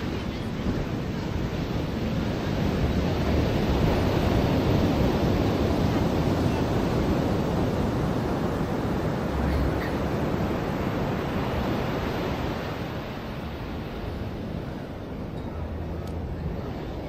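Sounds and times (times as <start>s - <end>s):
ocean surf washing onto beach: 0.0s - 17.0s
wind rumble on microphone: 0.0s - 17.0s.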